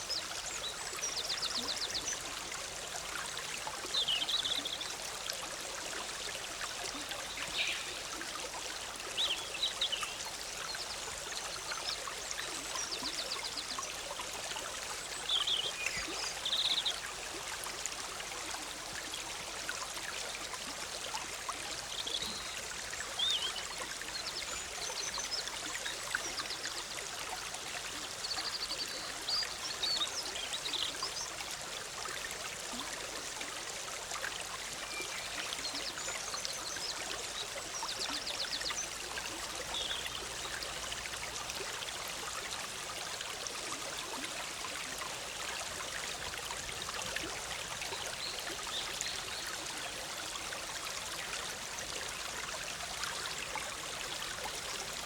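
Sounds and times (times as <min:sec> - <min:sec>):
stream bubbling and trickling: 0:00.0 - 0:55.0.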